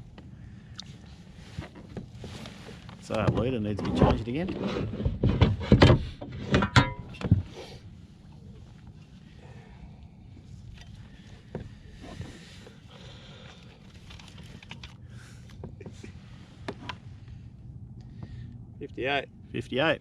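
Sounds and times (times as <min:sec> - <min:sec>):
faint handling noises: 0:00.0 - 0:05.6, 0:06.2 - 0:18.7
low steady rumble: 0:00.0 - 0:20.0.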